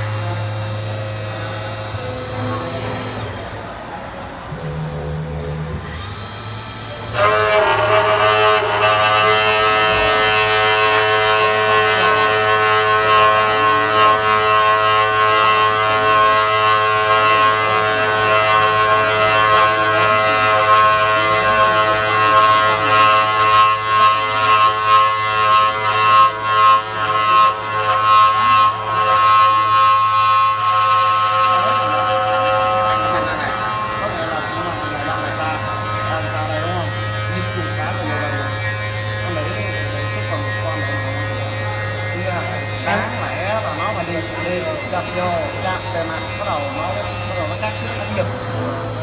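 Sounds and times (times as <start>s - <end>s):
spindle motor whining: 0.0s - 49.0s.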